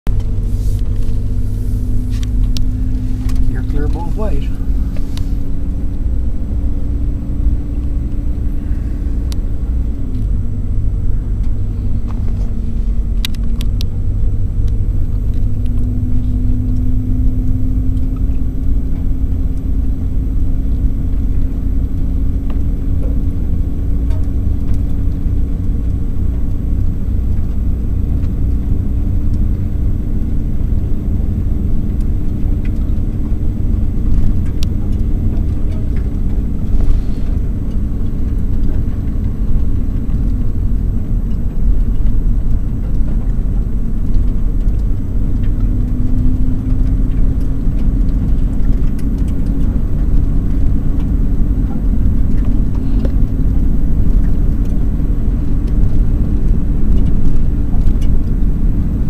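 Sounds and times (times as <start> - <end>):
engine and road rumble: 0.0 - 59.0
low hum: 0.1 - 59.0.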